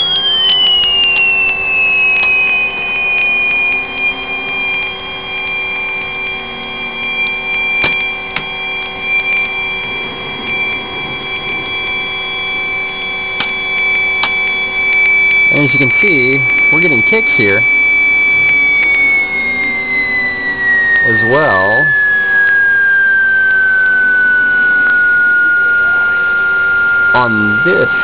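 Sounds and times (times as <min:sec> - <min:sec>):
high-pitched electronic whine: 0:00.0 - 0:28.0
low hum: 0:00.0 - 0:28.0
steady electronic tone: 0:00.0 - 0:28.0.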